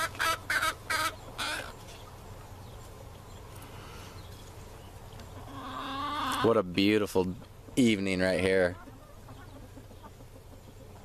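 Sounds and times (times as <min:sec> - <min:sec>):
chickens cackling: 0:00.0 - 0:11.0.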